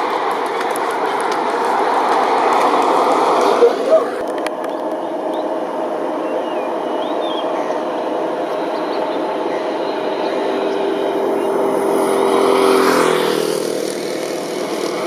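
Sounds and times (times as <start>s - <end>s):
birds chirping: 0.0s - 15.0s
distant jet engines: 0.0s - 15.0s.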